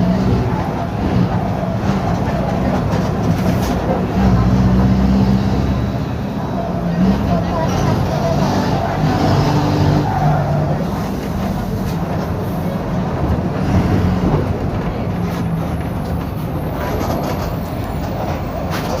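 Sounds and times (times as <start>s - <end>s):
diesel bus engine drone: 0.0s - 19.0s.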